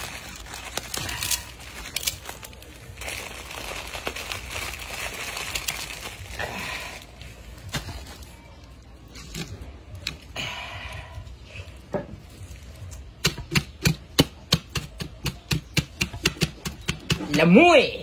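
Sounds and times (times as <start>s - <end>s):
hands rustling pineapple: 0.0s - 15.8s.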